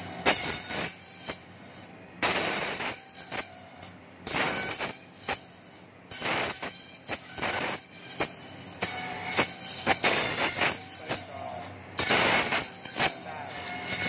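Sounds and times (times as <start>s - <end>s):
bamboo cutting bursts: 0.0s - 14.0s
machine whine: 0.0s - 14.0s.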